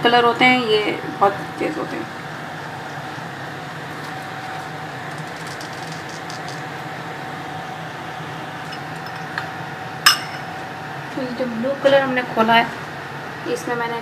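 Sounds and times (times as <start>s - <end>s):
mechanical hum with thin whine: 0.0s - 14.0s.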